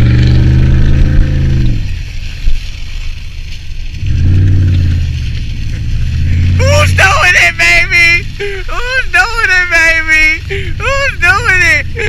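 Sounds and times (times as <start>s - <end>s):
truck engine revving: 0.0s - 2.1s, 3.9s - 12.0s.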